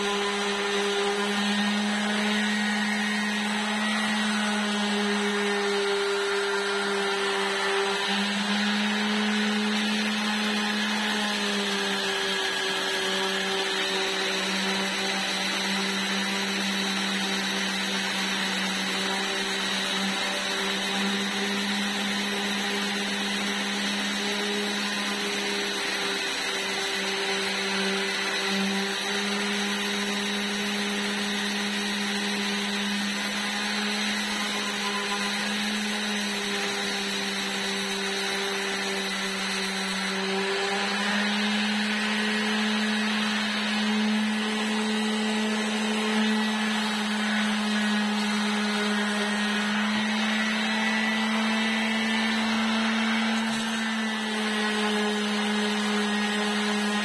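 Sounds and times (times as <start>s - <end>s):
orbital sander on wood: 0.0s - 57.0s.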